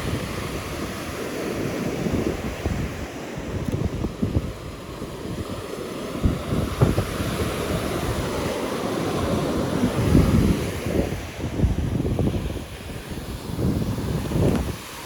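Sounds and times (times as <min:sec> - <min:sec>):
surf on a beach: 0:00.0 - 0:15.0
wind buffeting microphone: 0:00.0 - 0:15.0.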